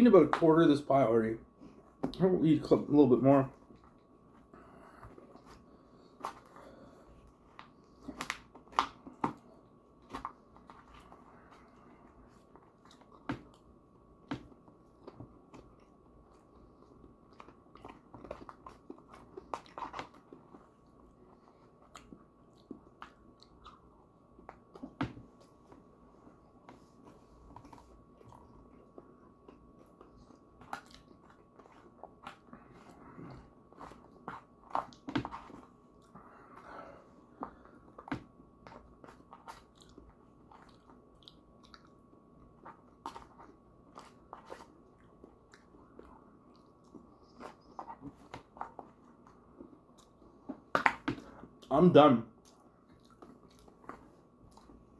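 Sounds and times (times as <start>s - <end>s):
chewing and crunching pastry: 1.6s - 54.9s.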